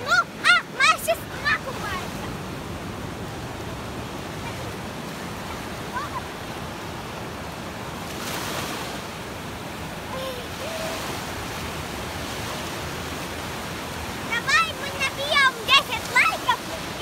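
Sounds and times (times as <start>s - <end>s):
small waves washing onto beach: 0.0s - 17.0s.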